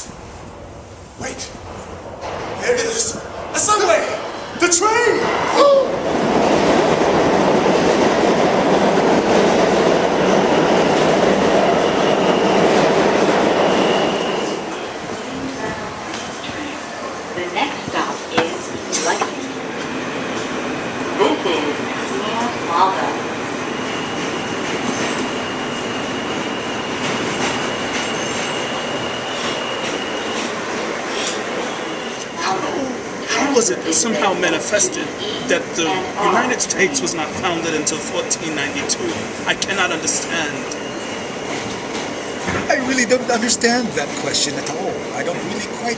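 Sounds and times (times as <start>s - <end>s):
subway train rumbling on track: 0.0s - 45.9s.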